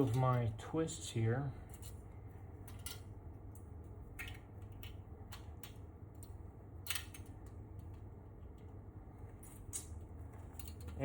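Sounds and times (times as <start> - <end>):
wire clicks and scratches: 0.0 - 0.9, 1.6 - 11.0
steady low hum: 0.0 - 11.0.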